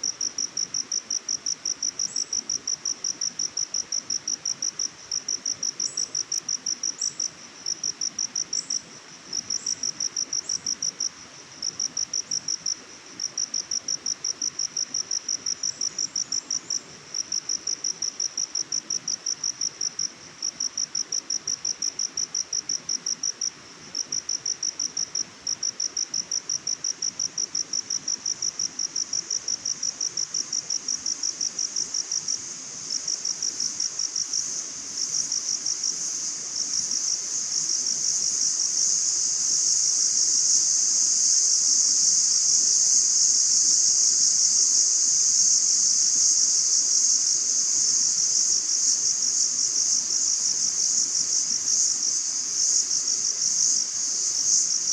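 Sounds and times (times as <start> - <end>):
insect chirping: 0.0 - 54.9
soft background hiss: 0.0 - 54.9.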